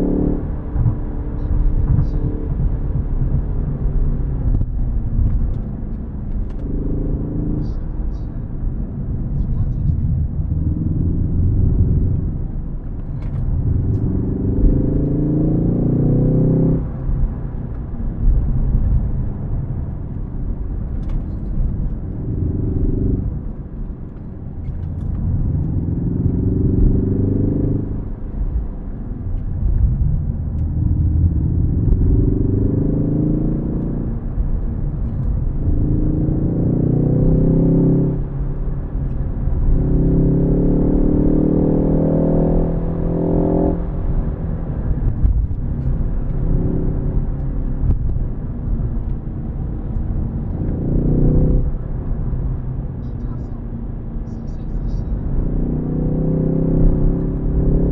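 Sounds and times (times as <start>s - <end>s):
car engine revving: 0.0s - 57.9s
low road rumble: 0.0s - 57.9s.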